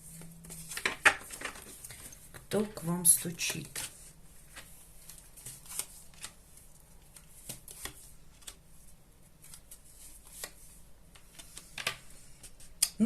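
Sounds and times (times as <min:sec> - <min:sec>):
cards being shuffled: 0:00.1 - 0:08.6, 0:09.4 - 0:12.8.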